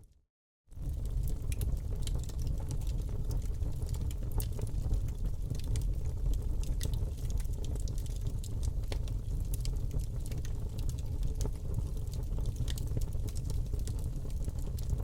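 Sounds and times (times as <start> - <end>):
fire rumbling: 0.7 - 15.0
wood fire crackling and popping: 0.7 - 15.0.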